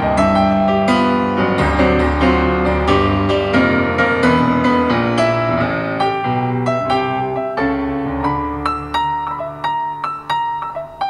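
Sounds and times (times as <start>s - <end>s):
solo piano: 0.0s - 11.0s.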